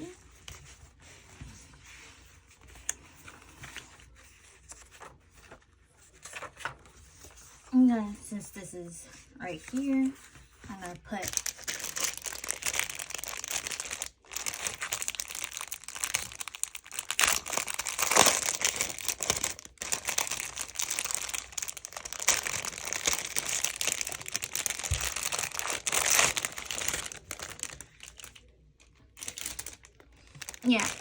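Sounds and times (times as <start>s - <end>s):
crinkling and rustling: 0.0s - 7.9s, 9.0s - 31.0s.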